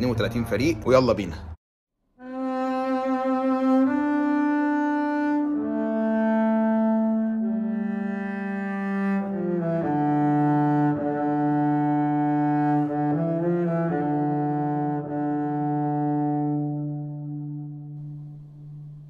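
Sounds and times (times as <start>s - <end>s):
slow low string melody: 2.2s - 19.0s.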